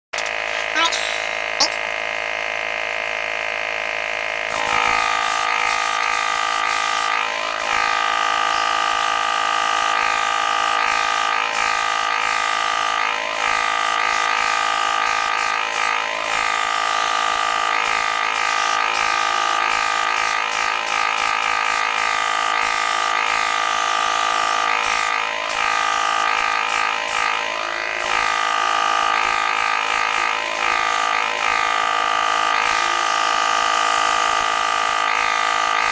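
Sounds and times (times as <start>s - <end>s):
airbrush compressor buzzing: 0.1s - 35.9s.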